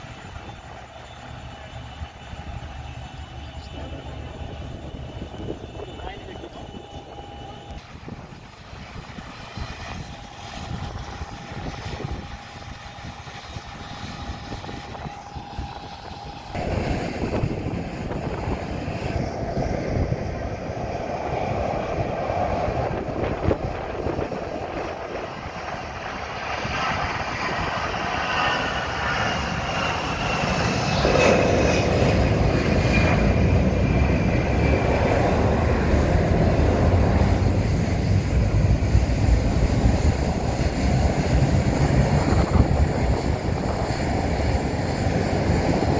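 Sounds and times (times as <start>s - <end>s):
jet engines taking off: 0.0s - 45.9s.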